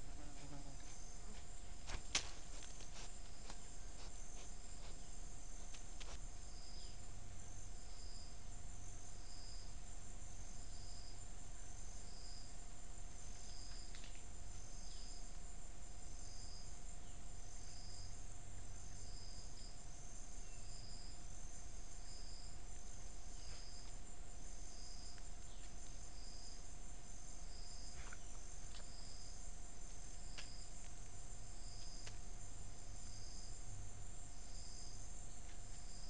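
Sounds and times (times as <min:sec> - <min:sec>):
cricket-like chirp: 0:00.0 - 0:36.0.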